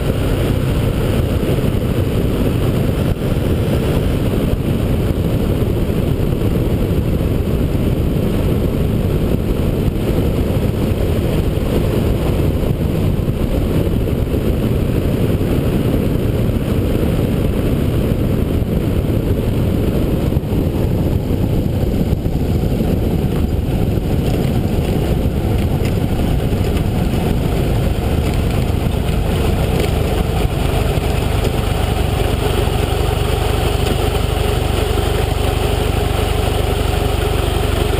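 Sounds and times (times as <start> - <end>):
light aircraft engine and propeller: 0.0 - 37.9
wind rushing over microphone: 0.0 - 37.9.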